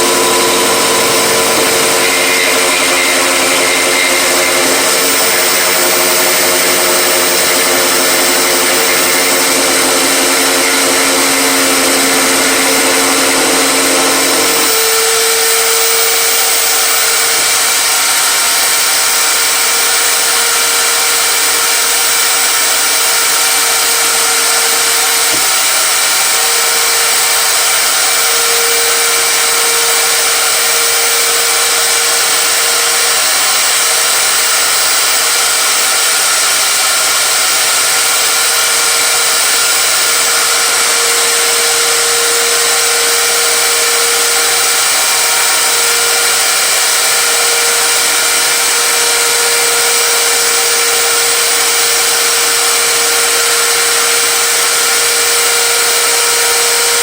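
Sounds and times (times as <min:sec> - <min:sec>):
electric power tool motor: 0:00.0 - 0:57.0.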